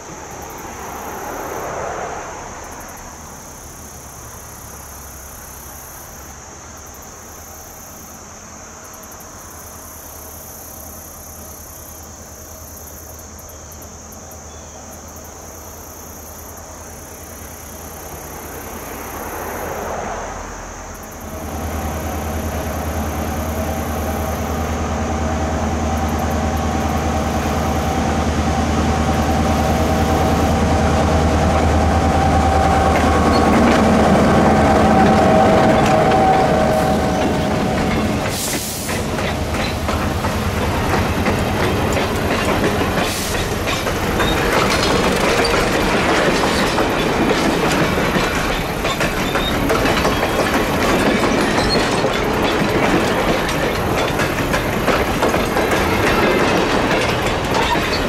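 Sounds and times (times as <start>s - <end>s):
diesel locomotive engine droning: 0.0s - 58.0s
insects chirring: 0.0s - 58.0s.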